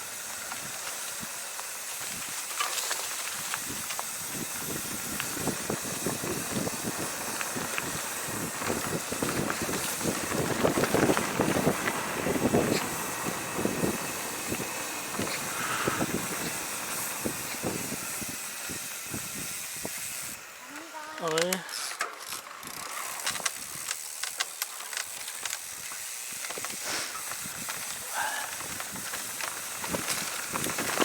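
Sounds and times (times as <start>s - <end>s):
wind and tyre noise: 0.0s - 21.0s, 21.8s - 31.0s
bike rattling over rough ground: 0.0s - 31.0s.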